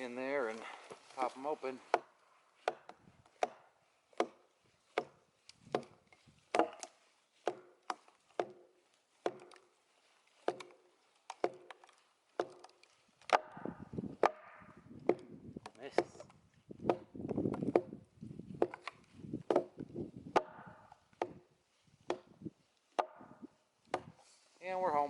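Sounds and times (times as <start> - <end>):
hammer striking wooden wedges: 1.8 - 9.7, 10.4 - 18.0, 18.6 - 24.2.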